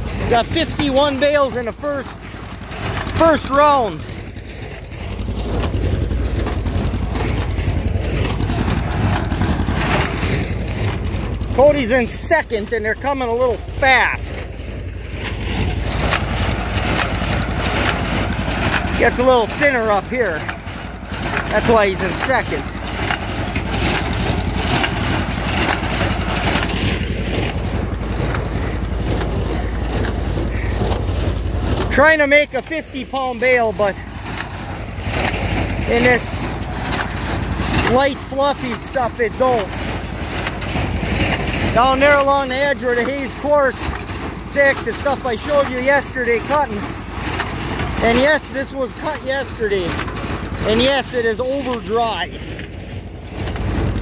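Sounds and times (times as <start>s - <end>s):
rustles and knocks: 0.0s - 54.0s
tractor and baler rumble: 0.0s - 54.0s.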